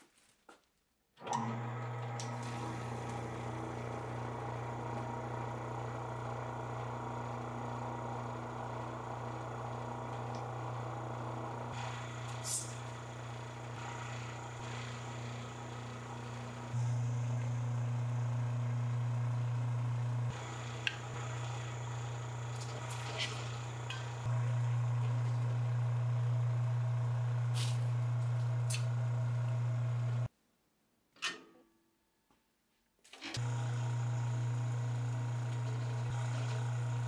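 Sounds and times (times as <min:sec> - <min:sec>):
electric motor humming: 0:01.3 - 0:30.3, 0:33.4 - 0:37.0.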